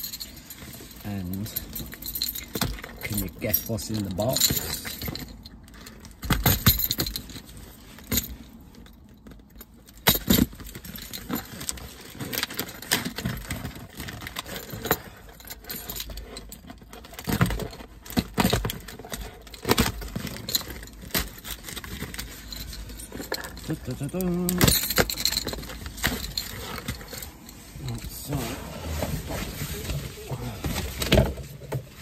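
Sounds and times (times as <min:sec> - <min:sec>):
keys jangling: 0:00.0 - 0:28.2.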